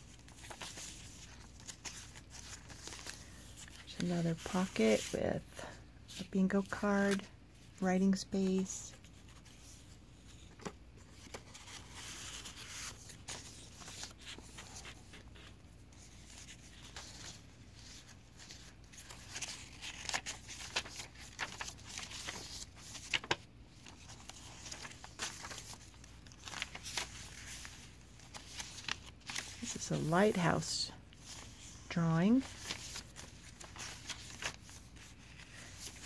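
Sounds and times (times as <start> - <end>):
paper pages rustling: 0.0 - 5.2, 8.2 - 36.0.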